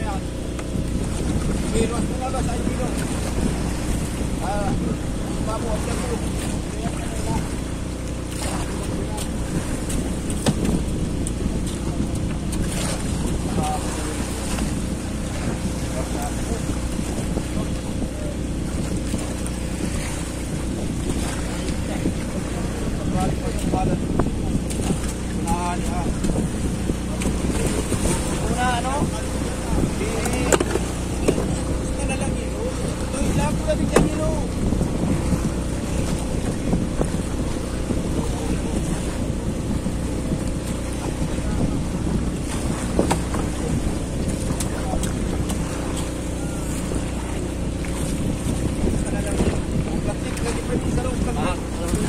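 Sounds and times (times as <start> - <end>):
boat engine droning: 0.0 - 52.0
water washing against hull: 0.0 - 52.0
wind on microphone: 0.0 - 52.0.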